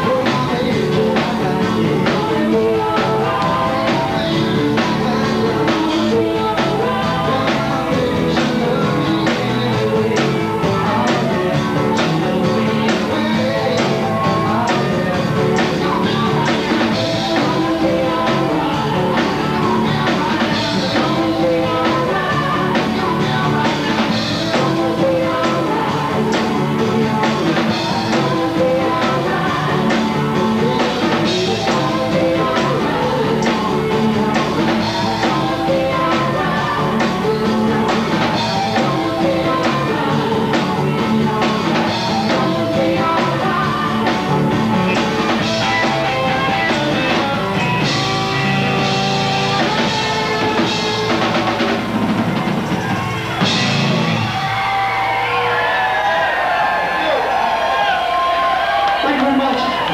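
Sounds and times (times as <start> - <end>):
person singing: 0.0 - 55.7
drums: 0.0 - 59.9
electric guitar: 0.0 - 59.9.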